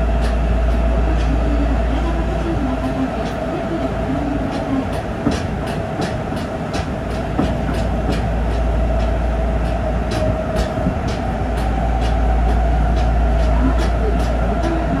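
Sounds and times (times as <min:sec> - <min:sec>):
subway car rumble and hum: 0:00.0 - 0:15.0
wheels clicking over rail joints: 0:00.0 - 0:15.0.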